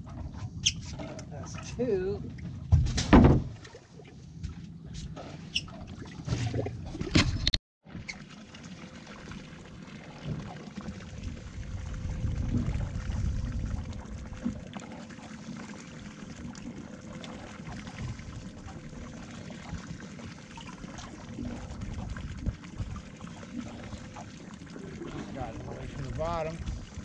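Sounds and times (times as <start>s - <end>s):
water slapping against boat hull: 0.0s - 9.4s, 10.0s - 27.0s.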